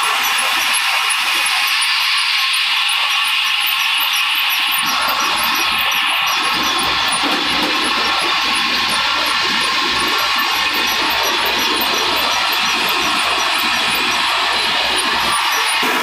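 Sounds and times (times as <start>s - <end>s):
stone crusher machinery: 0.0s - 16.0s.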